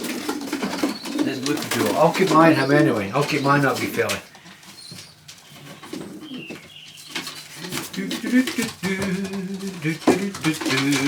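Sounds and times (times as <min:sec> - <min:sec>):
knocks and rustles of birds: 0:00.0 - 0:11.0
pigeons cooing: 0:00.0 - 0:11.0.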